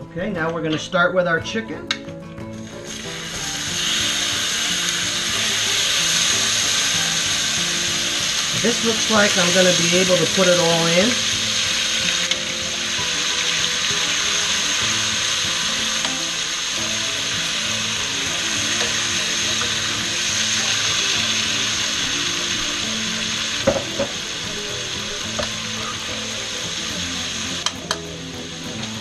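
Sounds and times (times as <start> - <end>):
chicken sizzling in a skillet: 2.5 - 29.0.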